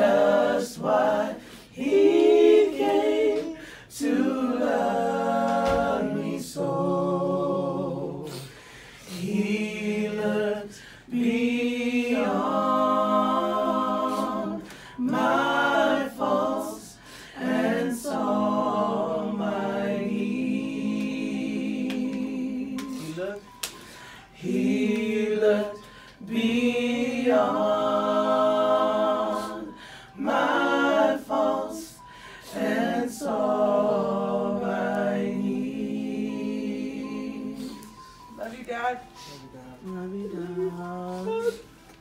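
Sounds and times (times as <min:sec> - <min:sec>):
voices singing unaccompanied: 0:00.0 - 0:42.0.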